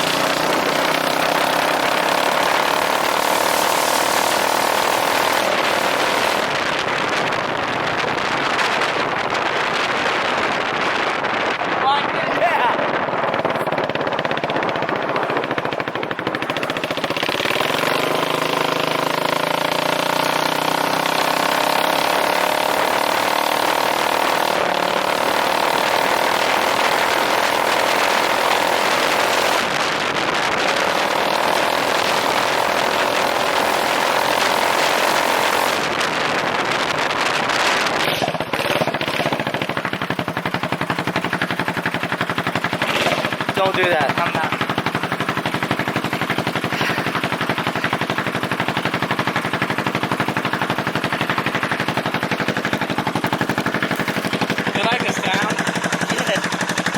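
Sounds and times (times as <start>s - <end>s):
loud scooter engine running: 0.0s - 56.9s.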